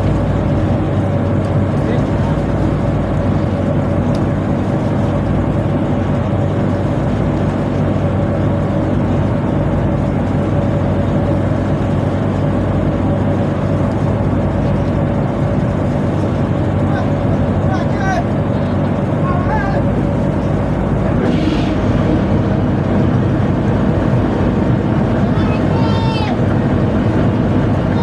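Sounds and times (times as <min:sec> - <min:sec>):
tugboat machinery droning: 0:00.0 - 0:28.0.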